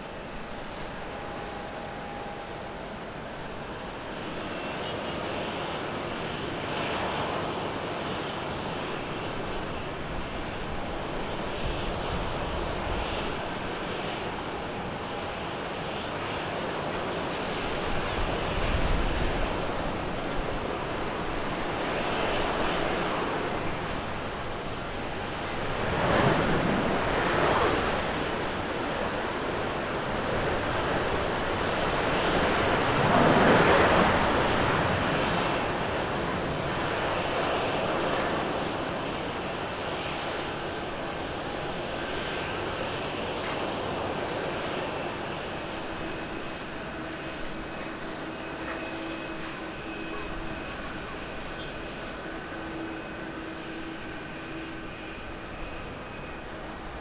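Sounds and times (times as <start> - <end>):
jet engines roaring on landing: 0.0 - 57.0.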